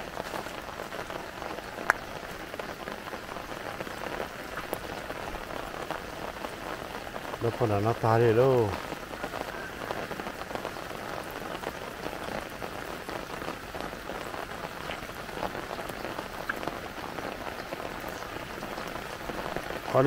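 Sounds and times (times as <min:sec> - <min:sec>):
rain falling on standing water: 0:00.0 - 0:20.0.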